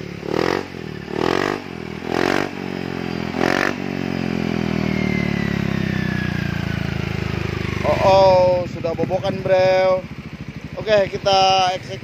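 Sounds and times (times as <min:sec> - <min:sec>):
scooter engine revving and idling: 0:00.0 - 0:12.0.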